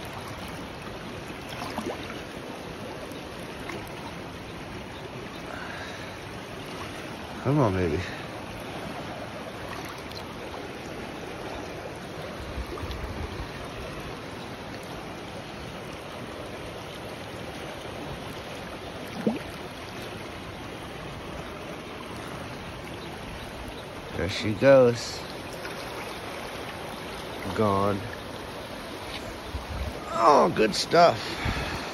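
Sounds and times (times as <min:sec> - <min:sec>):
river rushing: 0:00.0 - 0:31.9.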